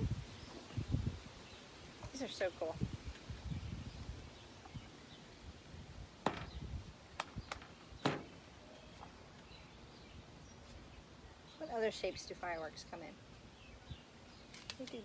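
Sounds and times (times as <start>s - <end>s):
quiet outdoor background: 0.0s - 15.0s.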